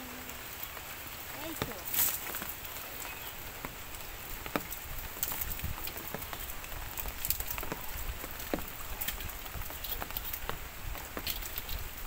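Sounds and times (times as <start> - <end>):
steady hiss: 0.0 - 12.0
water drops pattering and splashing: 0.0 - 12.0.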